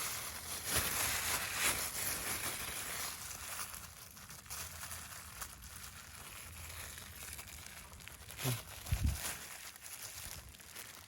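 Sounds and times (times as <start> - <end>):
dry vegetation rustling: 0.0 - 11.0.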